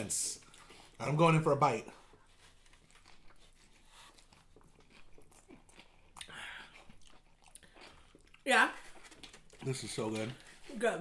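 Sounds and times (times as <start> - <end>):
person chewing food: 0.4 - 1.2, 1.8 - 10.7.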